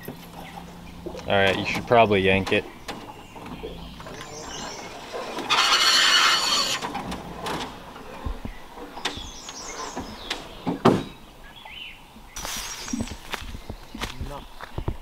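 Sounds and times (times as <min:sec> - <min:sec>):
reeds scraping along boat hull: 0:00.0 - 0:11.2, 0:12.4 - 0:13.3.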